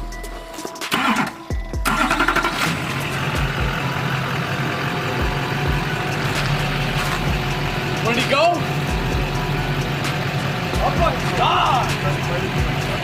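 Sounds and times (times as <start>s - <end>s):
truck engine cranking and idling: 0.0s - 13.0s.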